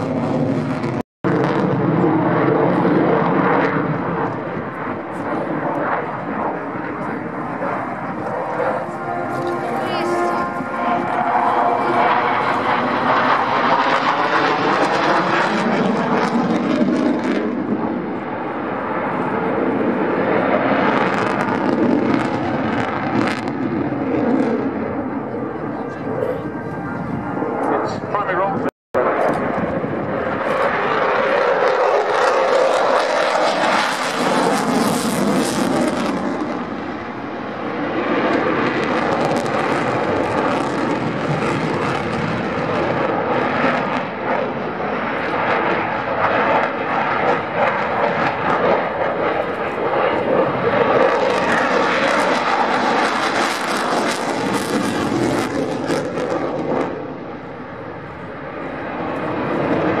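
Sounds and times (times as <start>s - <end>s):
jet engine roar: 0.0s - 60.0s.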